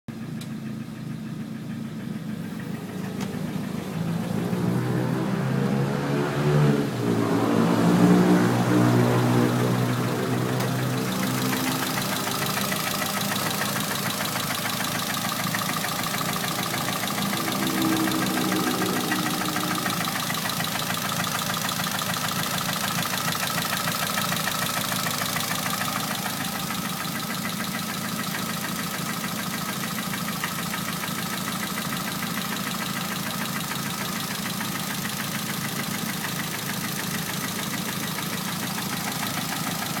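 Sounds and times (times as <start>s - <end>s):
car engine idling: 0.1s - 6.1s, 6.8s - 40.0s.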